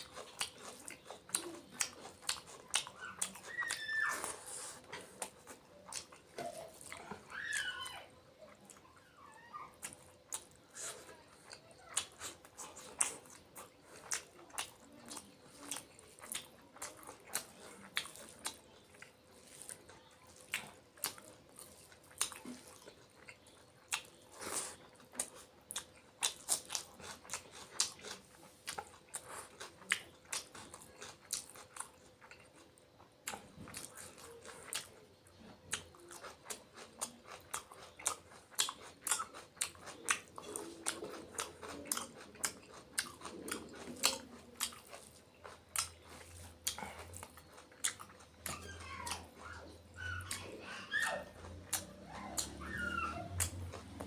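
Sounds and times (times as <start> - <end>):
person chewing and crunching: 0.0 - 54.0.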